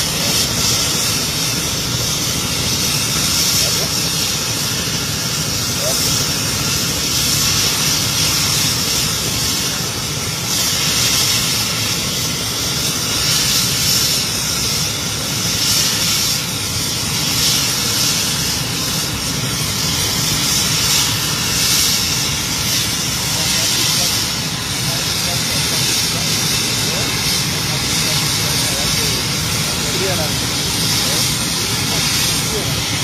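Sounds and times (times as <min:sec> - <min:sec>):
helicopter turbine whine: 0:00.0 - 0:33.0
rotor rushing noise: 0:00.0 - 0:33.0.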